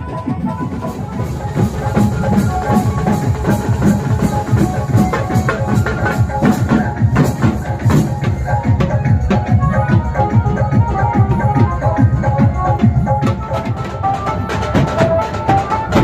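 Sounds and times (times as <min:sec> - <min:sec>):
loud drum and bass music: 0:00.0 - 0:16.0.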